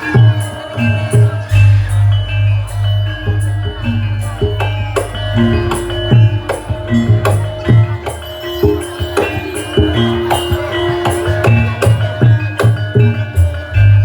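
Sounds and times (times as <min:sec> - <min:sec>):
drum strokes: 0:00.0 - 0:14.0
struck metal tones ringing: 0:00.0 - 0:14.0.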